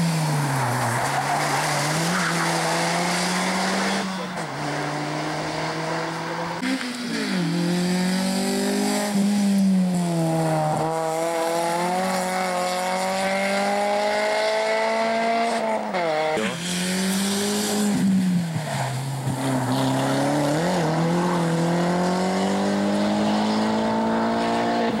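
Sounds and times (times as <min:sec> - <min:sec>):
rally car engines revving hard: 0:00.0 - 0:25.0.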